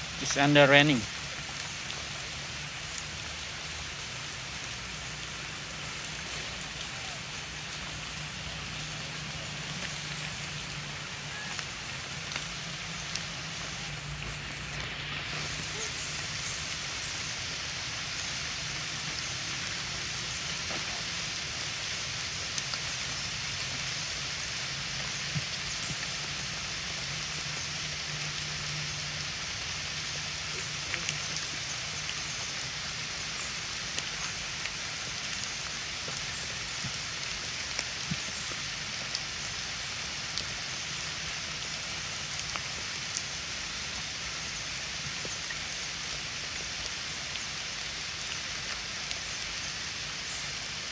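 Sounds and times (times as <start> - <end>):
raindrop ticks: 0.0 - 21.6, 22.3 - 39.6, 40.3 - 40.8, 41.6 - 44.0, 44.9 - 50.9
steady rain hiss: 0.0 - 50.9.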